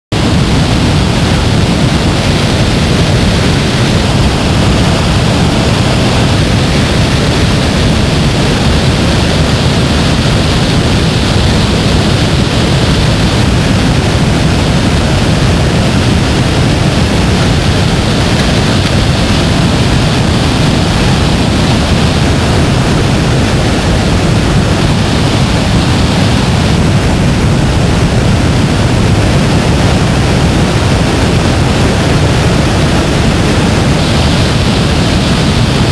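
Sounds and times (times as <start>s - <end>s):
water rushing over rapids: 0.1s - 35.9s.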